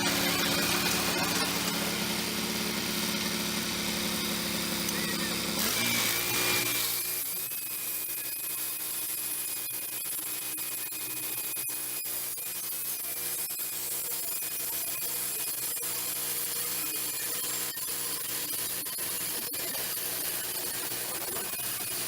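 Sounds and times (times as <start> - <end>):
band sawmill running: 0.0 - 22.0.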